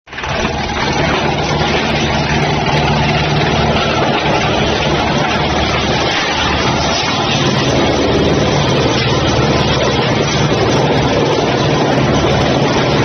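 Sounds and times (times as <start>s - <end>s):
wood chipper running: 0.1s - 13.0s.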